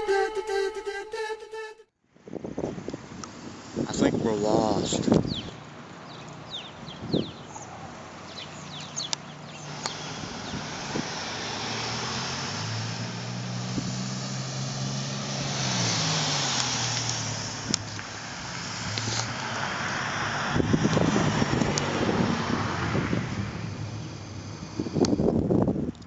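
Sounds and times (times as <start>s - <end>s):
rushing tyre noise: 2.1s - 26.0s
vehicle engine hum passing: 2.1s - 26.0s.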